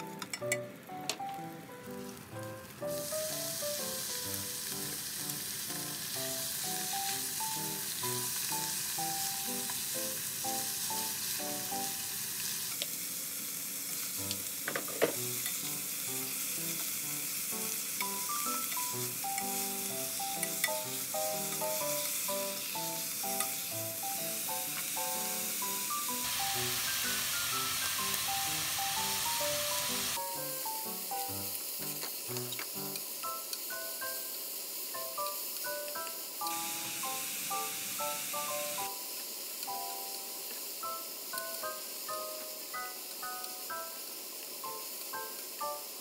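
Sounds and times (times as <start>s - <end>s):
light melodic background music: 0.0s - 12.0s, 15.0s - 34.3s, 35.0s - 39.1s, 39.7s - 46.0s
oil sizzling in a frying pan: 0.0s - 46.0s.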